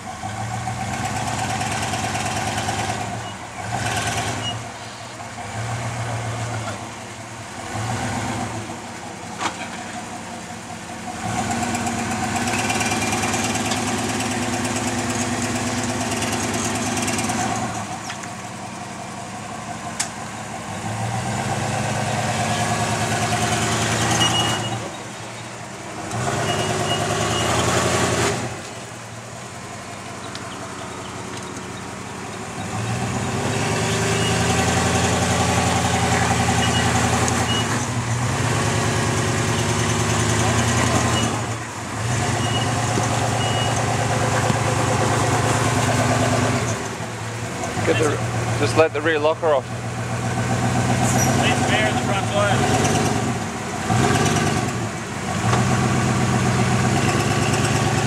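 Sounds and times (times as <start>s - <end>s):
truck engine revving in bursts: 0.0s - 4.8s, 7.6s - 8.8s, 11.0s - 18.0s, 20.3s - 29.0s, 29.6s - 58.0s.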